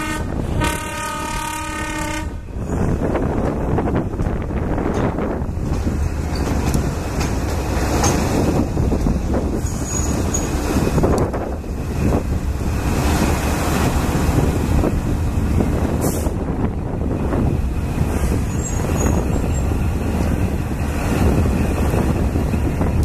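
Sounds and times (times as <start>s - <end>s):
diesel locomotive engine running: 0.0s - 23.0s
wind buffeting microphone: 0.0s - 23.0s.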